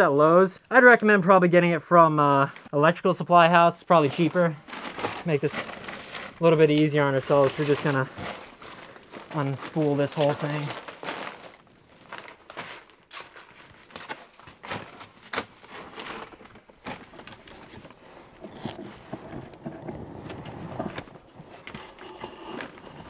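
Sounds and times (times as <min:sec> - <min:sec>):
cable rustling and scraping: 0:03.9 - 0:23.0.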